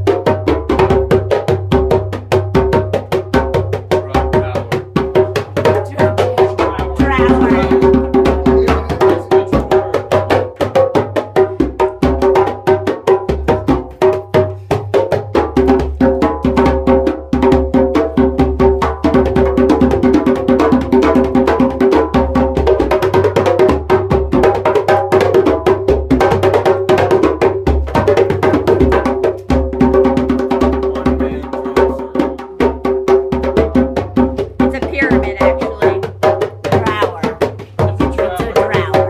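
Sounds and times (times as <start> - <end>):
djembe hand drums: 0.0 - 39.0.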